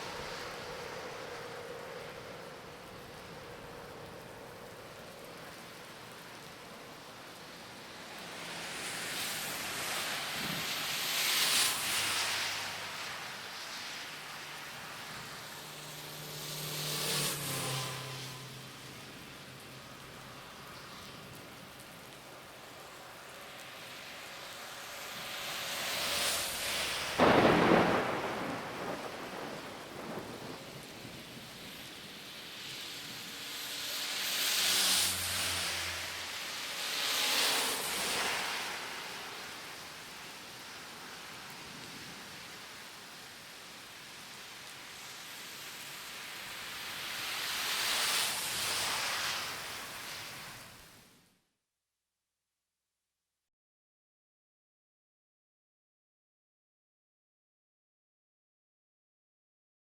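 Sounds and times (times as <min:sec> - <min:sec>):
car tyres hissing on wet road: 0:00.0 - 0:51.3.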